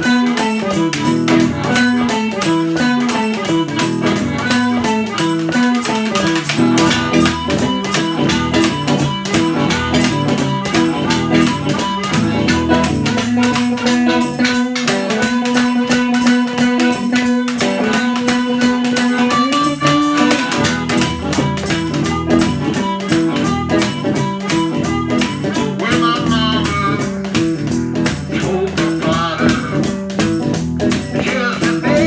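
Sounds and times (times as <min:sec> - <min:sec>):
blues guitar riff: 0:00.0 - 0:32.0
washboard scraping rhythm: 0:00.0 - 0:32.0.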